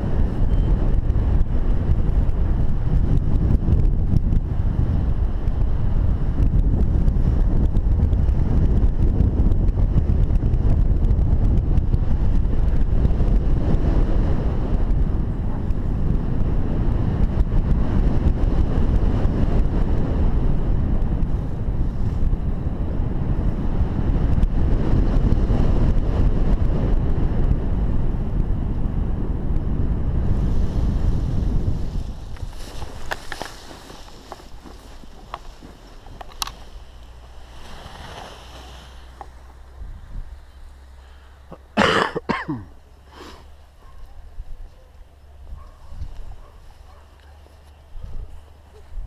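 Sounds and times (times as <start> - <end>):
wind rushing over microphone: 0.0 - 49.0.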